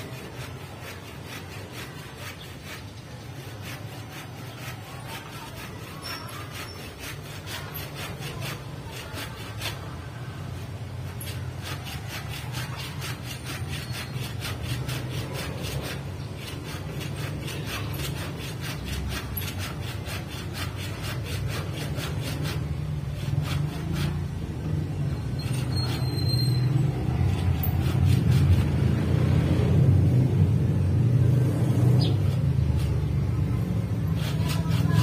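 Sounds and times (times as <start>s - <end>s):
hand saw cutting: 0.0s - 29.8s, 31.8s - 35.0s.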